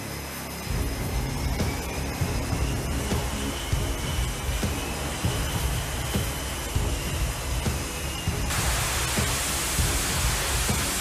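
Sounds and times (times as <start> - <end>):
background music: 0.0 - 11.0
loud rushing hiss: 0.0 - 11.0.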